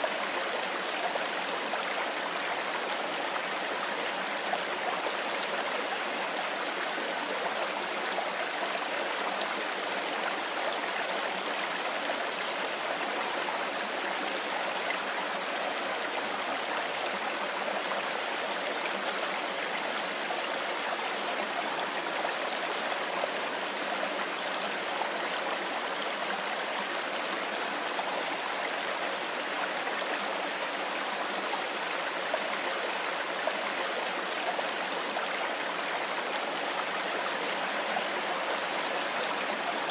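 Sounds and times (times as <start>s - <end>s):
mountain river flowing: 0.0s - 39.9s.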